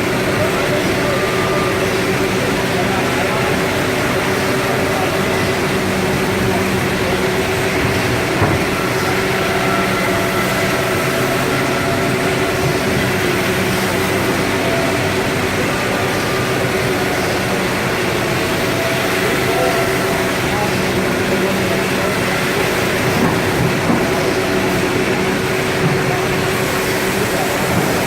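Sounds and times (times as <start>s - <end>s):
cnc router whining drone: 0.0s - 28.0s.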